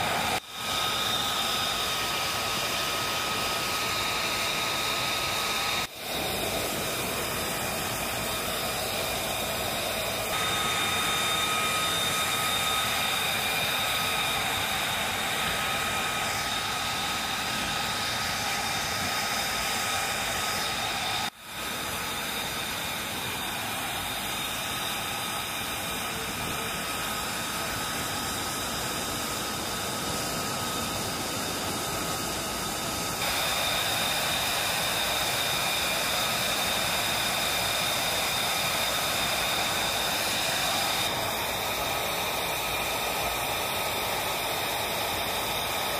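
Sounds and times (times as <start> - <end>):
jet engine idling whine: 0.0 - 45.9
rushing hiss: 0.0 - 45.9.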